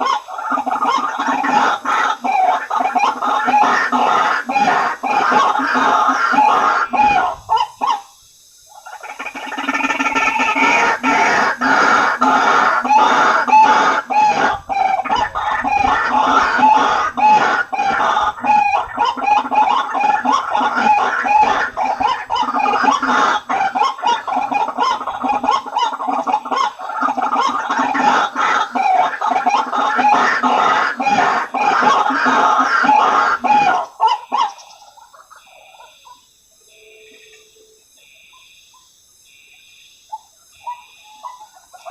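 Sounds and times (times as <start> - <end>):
waterhen calling: 0.0 - 38.9, 40.1 - 41.9.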